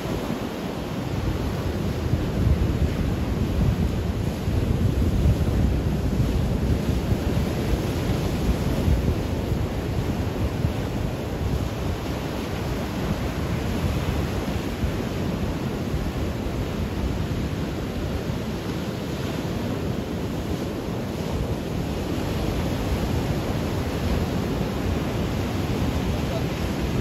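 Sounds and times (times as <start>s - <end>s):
ocean surf over rocks: 0.0s - 27.0s
wind buffeting microphone: 0.0s - 27.0s.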